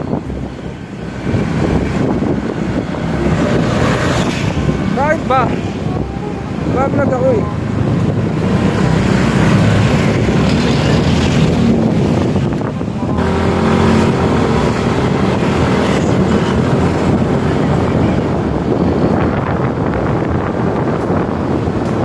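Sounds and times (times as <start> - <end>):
motorcycle engine: 0.0 - 20.3
road noise: 0.0 - 22.0
wind rushing over microphone: 0.0 - 22.0.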